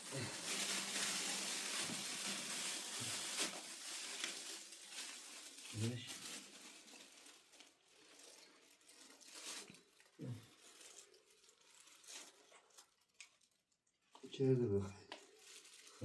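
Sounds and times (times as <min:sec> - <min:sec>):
rustling and crinkling handling: 0:00.0 - 0:16.0.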